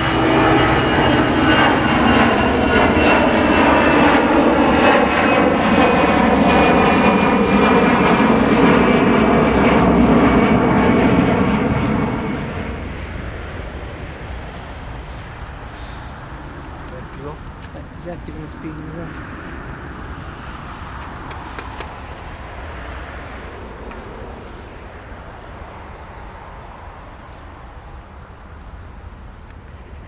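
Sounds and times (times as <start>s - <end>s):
airliner engines passing: 0.0s - 30.0s.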